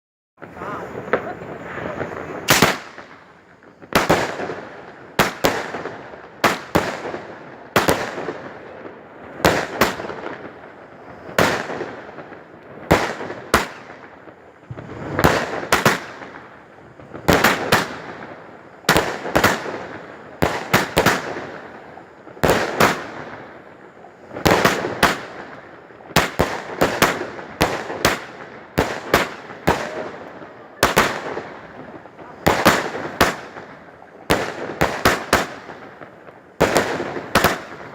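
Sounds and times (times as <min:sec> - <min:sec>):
firecrackers banging: 0:00.4 - 0:37.9.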